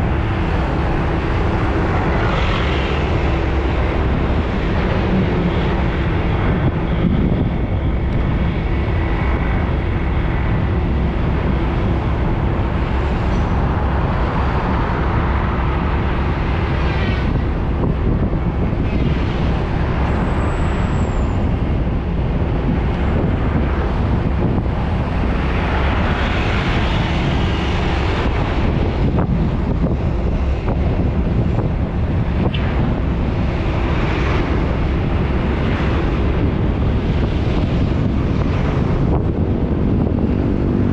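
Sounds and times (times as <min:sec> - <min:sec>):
vehicles driving past: 0:00.0 - 0:40.9
wind rumbling on microphone: 0:00.0 - 0:40.9.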